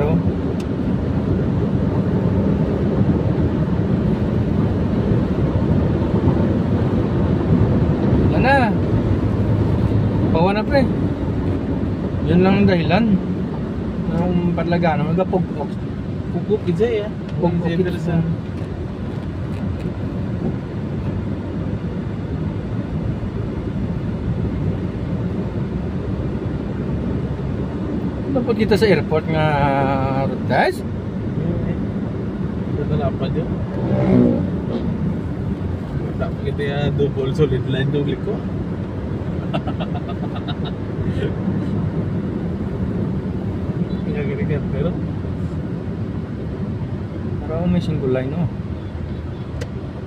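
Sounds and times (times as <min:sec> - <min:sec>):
wind and road noise: 0:00.0 - 0:50.0.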